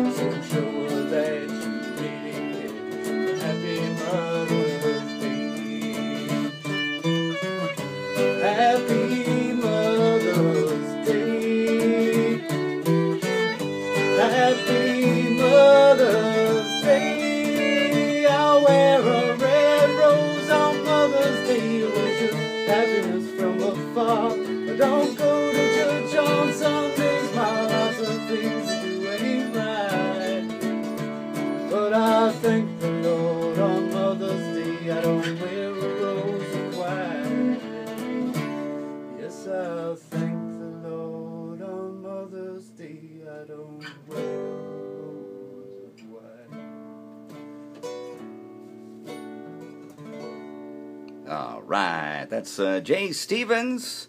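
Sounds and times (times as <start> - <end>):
strummed guitar chords: 0.0 - 53.8
acoustic guitar lead melody: 0.0 - 54.0.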